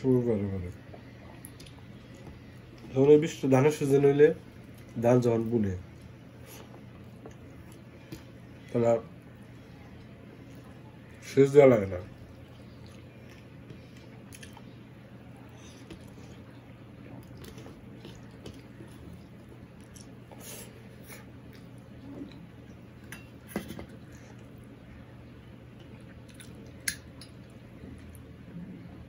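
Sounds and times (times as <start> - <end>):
quiet chewing: 0.6 - 3.0, 4.4 - 5.0, 5.8 - 11.3, 12.0 - 29.0.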